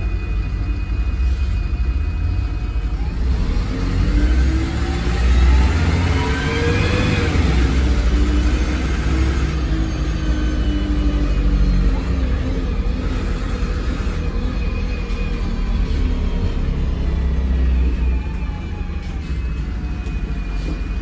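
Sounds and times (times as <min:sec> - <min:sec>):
bus diesel engine pulling away: 0:00.0 - 0:21.0.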